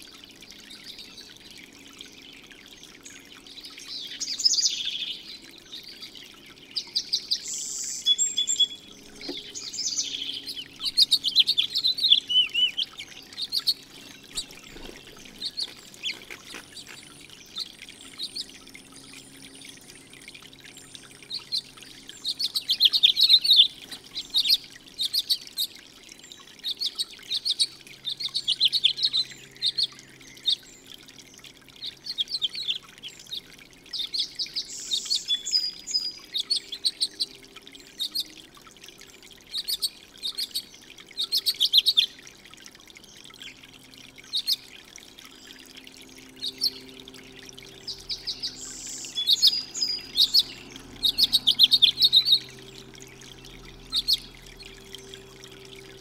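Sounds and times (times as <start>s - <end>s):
fountain water trickling: 0.0s - 56.0s
songbirds chirping and singing: 0.0s - 56.0s.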